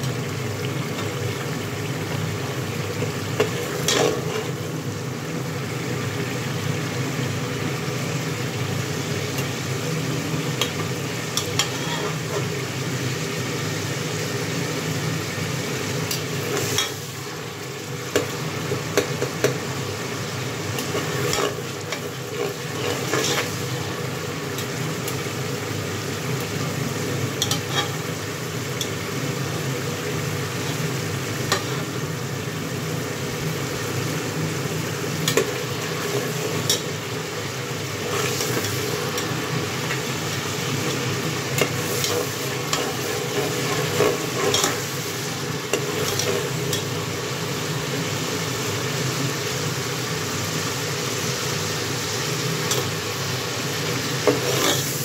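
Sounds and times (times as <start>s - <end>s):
masala sizzling in oil: 0.0s - 55.0s.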